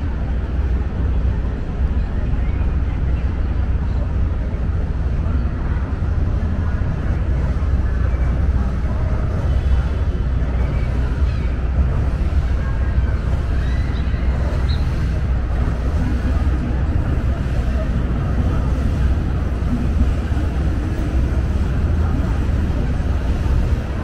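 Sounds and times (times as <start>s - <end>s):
boat engine rumbling: 0.0s - 24.0s
faint voices: 0.0s - 24.0s.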